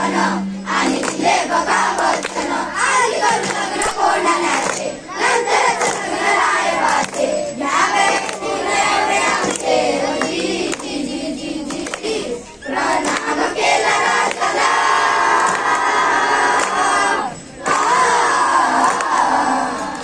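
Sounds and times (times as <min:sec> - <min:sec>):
children chanting in unison: 0:00.0 - 0:20.0
children clapping in time: 0:00.8 - 0:20.0.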